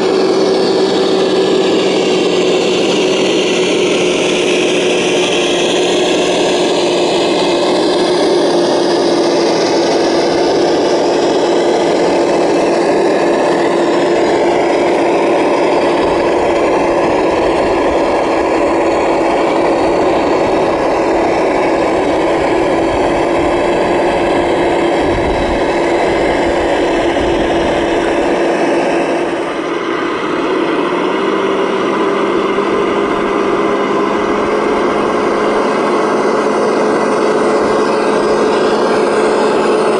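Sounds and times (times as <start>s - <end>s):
model truck motors whining: 0.0s - 39.9s.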